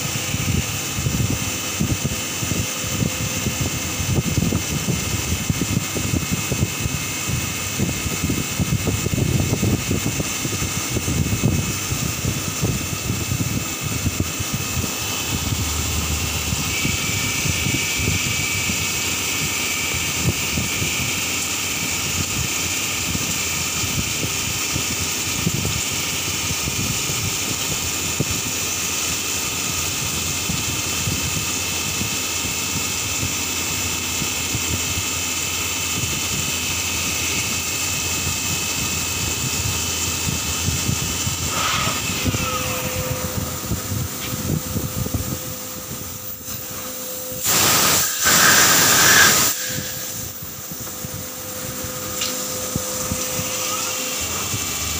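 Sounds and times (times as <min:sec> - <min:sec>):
lathe machine whine and rumble: 0:00.0 - 0:54.9.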